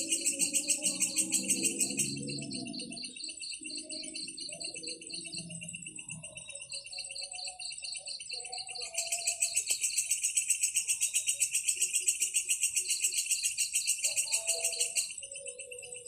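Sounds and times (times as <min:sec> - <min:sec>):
insects chirping: 0:00.0 - 0:16.0
rapid rattling insect trill: 0:00.0 - 0:16.0.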